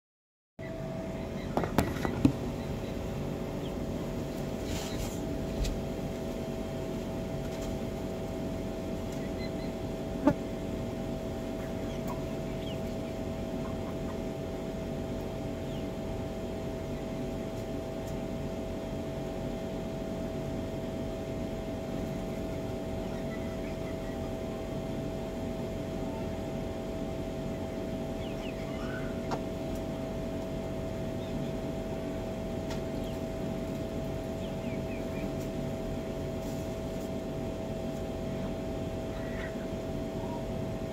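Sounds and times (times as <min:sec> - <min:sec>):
mechanical hum: 0:00.6 - 0:40.9.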